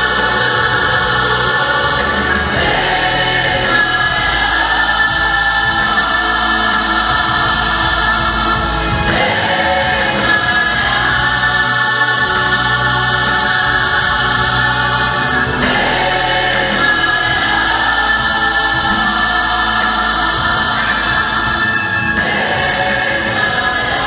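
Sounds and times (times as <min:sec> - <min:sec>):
vocal group singing in harmony: 0:00.0 - 0:24.0.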